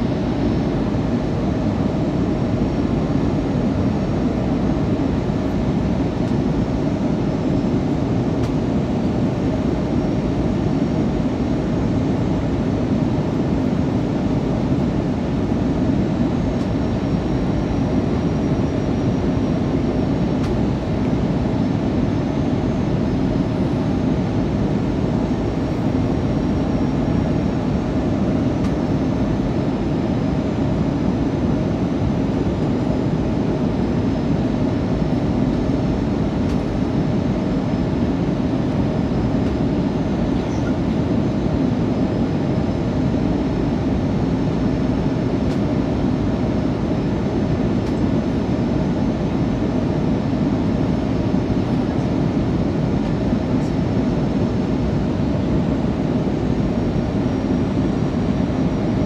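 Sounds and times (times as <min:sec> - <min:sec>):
aircraft cabin engine and airflow noise: 0:00.0 - 0:59.0.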